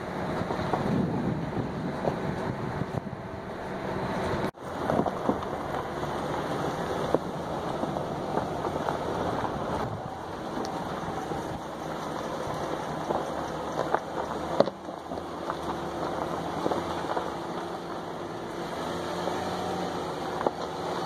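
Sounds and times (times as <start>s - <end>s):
tyres crunching over gravel: 0.0s - 21.0s
vehicle rumble: 0.0s - 21.0s.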